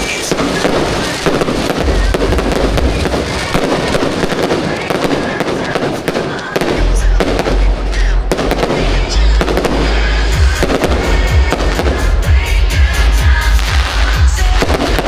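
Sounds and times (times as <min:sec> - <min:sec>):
fireworks bangs and crackles: 0:00.0 - 0:15.0
heavy bass beat: 0:00.0 - 0:15.0
loud show music: 0:00.0 - 0:15.0.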